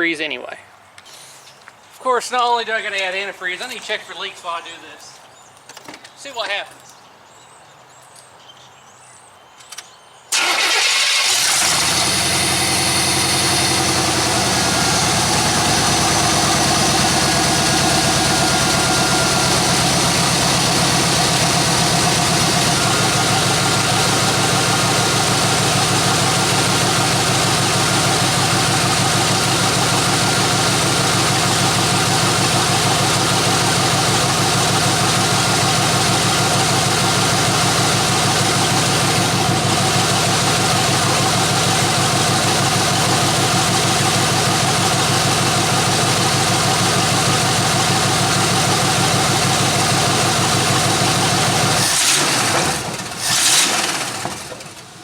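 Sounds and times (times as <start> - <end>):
car engine starting and idling: 10.3 - 55.0.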